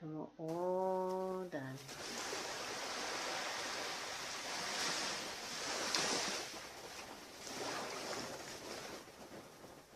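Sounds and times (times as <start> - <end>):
waves breaking on beach: 1.0 - 9.9.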